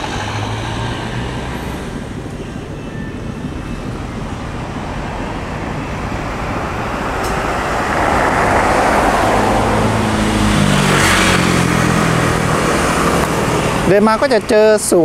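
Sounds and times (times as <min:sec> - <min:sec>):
pickup truck driving past: 0:00.0 - 0:02.3, 0:04.2 - 0:14.5
engine hum: 0:00.0 - 0:15.0.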